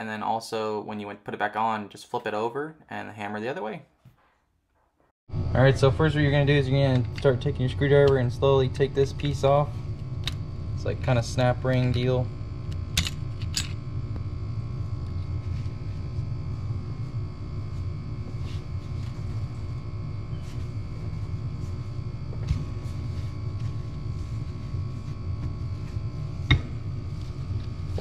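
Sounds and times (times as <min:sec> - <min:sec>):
low background hum: 0:05.3 - 0:28.0.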